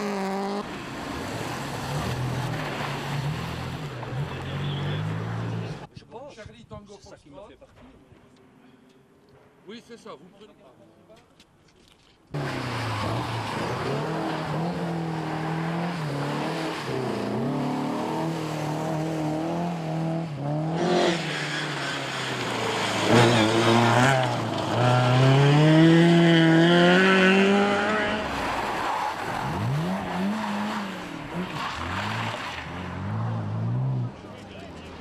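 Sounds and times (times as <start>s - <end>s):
rally car engines revving: 0.0s - 5.9s, 12.4s - 35.0s.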